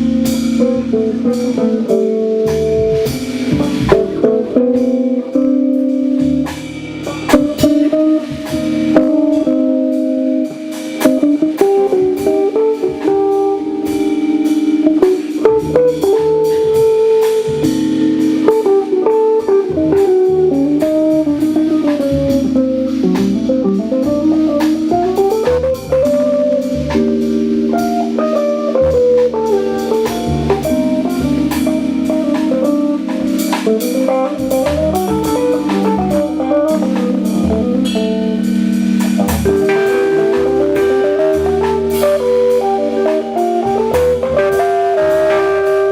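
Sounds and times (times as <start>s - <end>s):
drum kit: 0.0s - 45.9s
jazz guitar: 0.0s - 45.9s
keyboard bass line: 0.0s - 45.9s.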